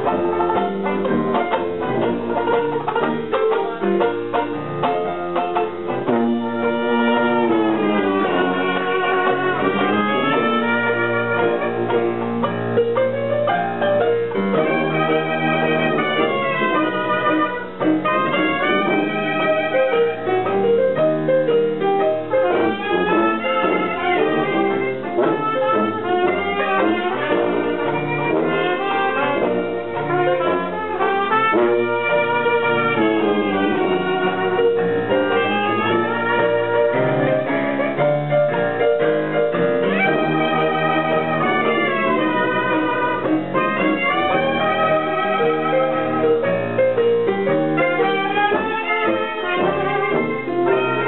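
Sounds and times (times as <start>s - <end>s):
brass instruments playing melody: 0.0s - 51.0s
jazz band playing: 0.0s - 51.0s.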